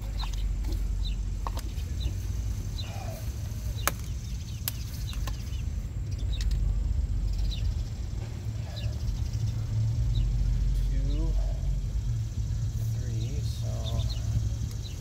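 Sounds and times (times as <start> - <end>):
low rumble: 0.0 - 15.0
small birds chirping: 0.0 - 15.0.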